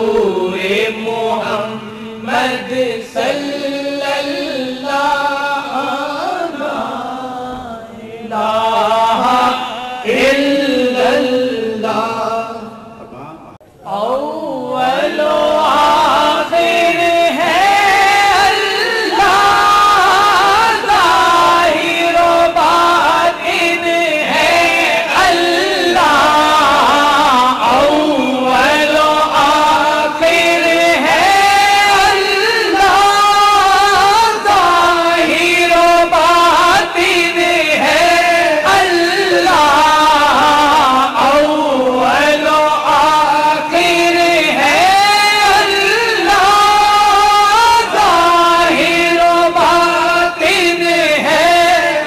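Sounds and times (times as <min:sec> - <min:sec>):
devotional chanting: 0:00.0 - 0:52.0.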